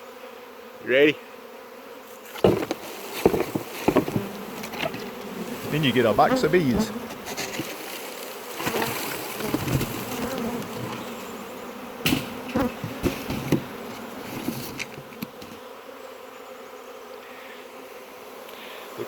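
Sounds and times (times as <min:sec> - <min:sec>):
bees passing close by: 0:00.0 - 0:19.0
swarm of bees buzzing: 0:00.0 - 0:19.0.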